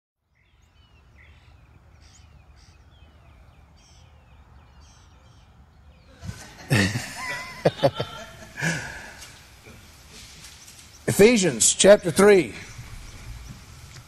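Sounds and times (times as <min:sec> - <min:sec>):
small birds chirping: 0:00.2 - 0:06.5, 0:08.4 - 0:14.0
low outdoor rumble: 0:00.2 - 0:14.0.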